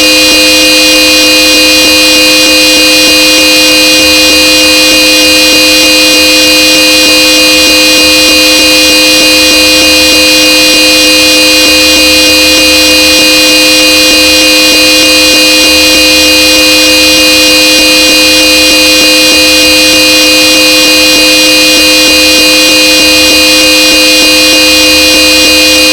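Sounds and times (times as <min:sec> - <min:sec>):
twin-tone car horn blast: 0:00.0 - 0:25.9.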